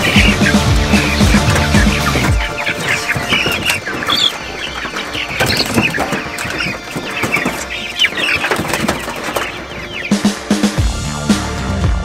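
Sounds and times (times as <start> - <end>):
chickens scrabbling in crate: 0.0 - 10.8
wings flapping: 0.0 - 10.8
chicks peeping and clucking: 0.0 - 11.6.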